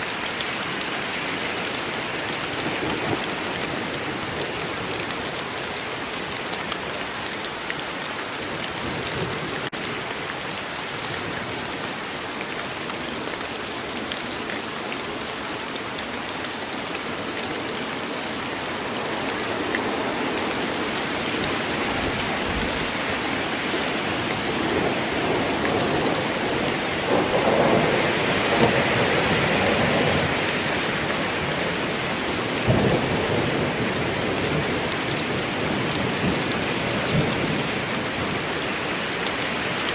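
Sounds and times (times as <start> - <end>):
rain falling on a forest: 0.0 - 39.9.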